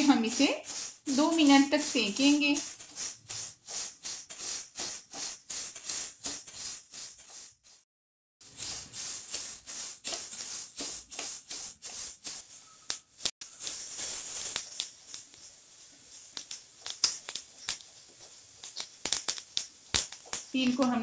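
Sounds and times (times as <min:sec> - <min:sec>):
seeds crackling and popping: 0:00.0 - 0:07.8, 0:08.4 - 0:21.0
seeds scraped around a pan: 0:00.0 - 0:07.8, 0:08.4 - 0:21.0.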